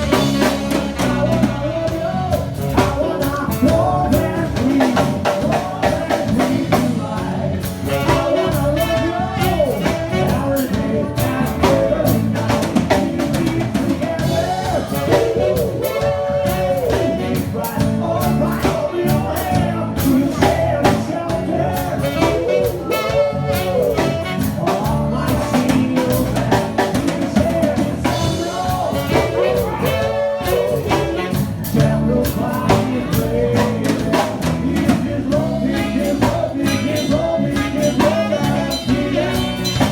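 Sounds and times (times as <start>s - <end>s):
band playing a song: 0.0s - 39.9s
person singing: 0.0s - 39.9s.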